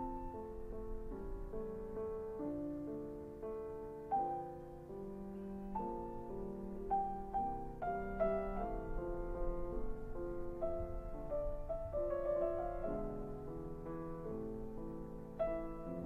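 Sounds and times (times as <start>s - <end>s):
slow soft piano music: 0.0s - 16.0s.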